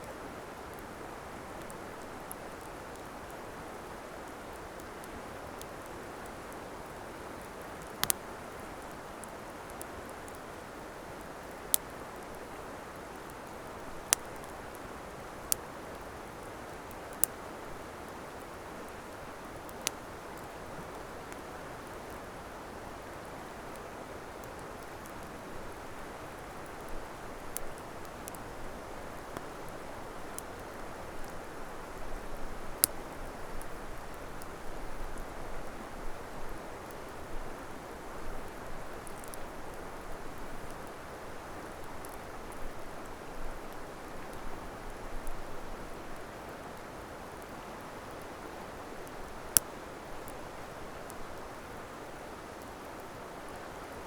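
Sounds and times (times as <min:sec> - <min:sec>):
campfire crackling and popping: 0:00.6 - 0:37.6, 0:38.2 - 0:53.6.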